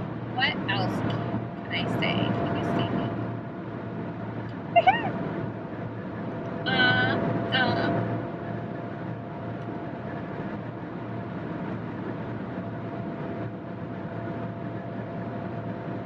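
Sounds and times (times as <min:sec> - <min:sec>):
car cabin road and engine noise: 0:00.0 - 0:16.0.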